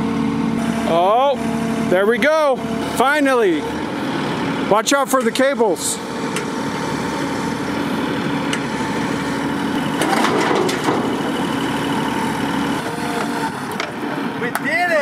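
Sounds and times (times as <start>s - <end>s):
excavator diesel engine running: 0.0s - 15.0s
hydraulics working: 0.0s - 15.0s.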